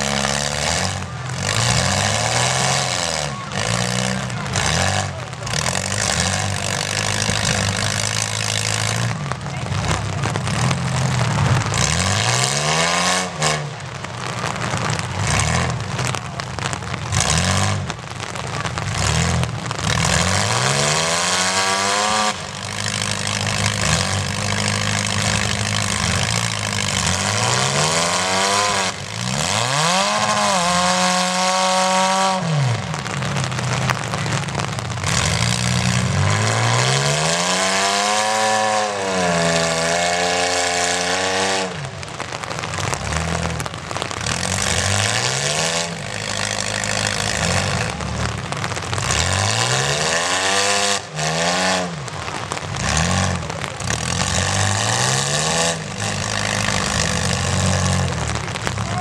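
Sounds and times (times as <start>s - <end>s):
car engines revving hard: 0.0s - 59.0s
steady engine noise: 0.0s - 59.0s.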